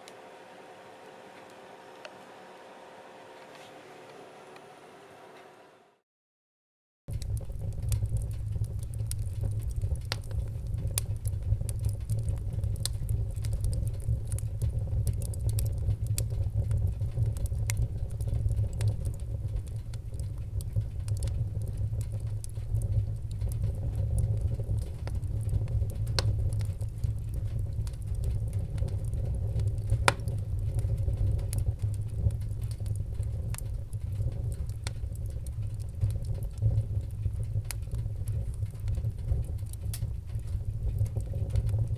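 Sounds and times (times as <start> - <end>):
low rumble of flames: 7.1 - 41.9
wood fire crackling and popping: 7.1 - 41.9.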